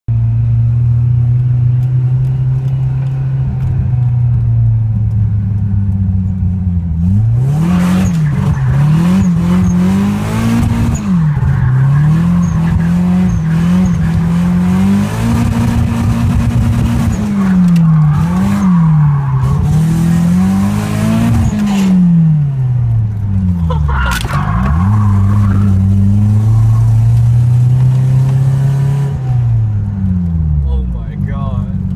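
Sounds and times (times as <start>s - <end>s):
car engine revving: 0.3s - 31.9s.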